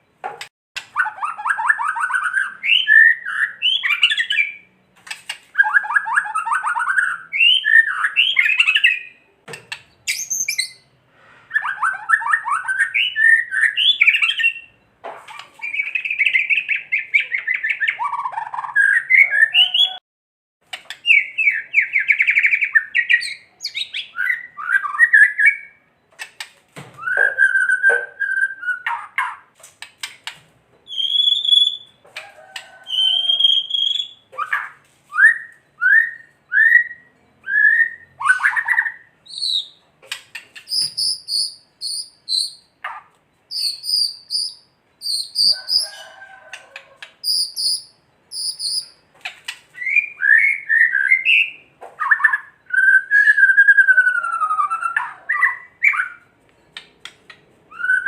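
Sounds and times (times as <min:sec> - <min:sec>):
bird singing trills and whistles: 0:00.8 - 0:20.0, 0:20.9 - 0:30.1, 0:30.8 - 0:32.0, 0:32.8 - 0:46.2, 0:47.1 - 0:49.1, 0:49.7 - 0:58.0.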